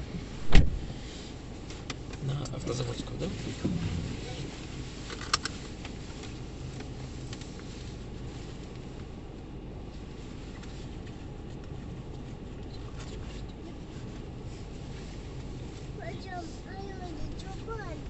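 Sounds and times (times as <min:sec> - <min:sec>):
car cabin road noise: 0:00.0 - 0:18.0.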